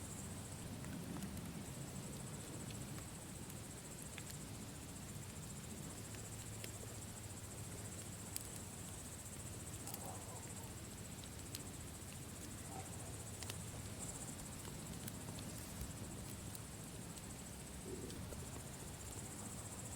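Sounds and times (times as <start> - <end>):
crickets chirring: 0.0 - 19.9
campfire crackling and popping: 0.1 - 19.9.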